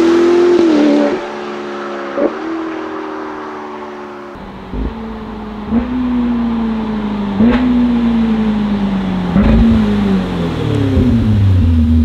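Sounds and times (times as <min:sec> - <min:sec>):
sports car engine revving: 0:00.0 - 0:12.0.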